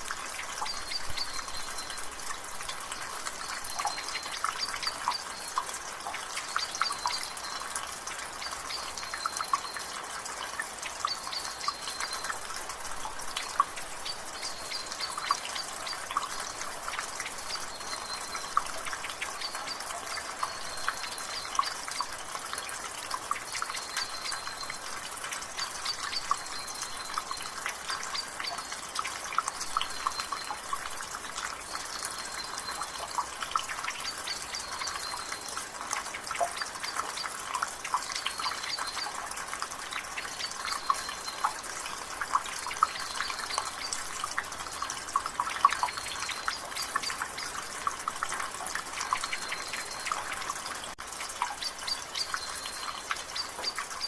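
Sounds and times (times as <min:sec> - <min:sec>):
water dripping from gutter: 0:00.0 - 0:54.0.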